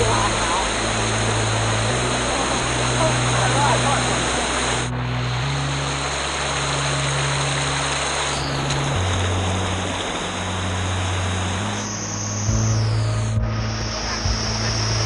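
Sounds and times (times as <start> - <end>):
background music bass notes: 0.0 - 15.0
waterfall rushing: 0.0 - 15.0.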